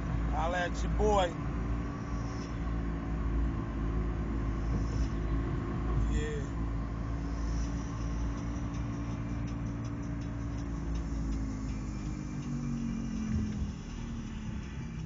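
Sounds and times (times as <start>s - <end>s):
engine hum: 0.0s - 15.0s
road noise in car cabin: 0.0s - 15.0s.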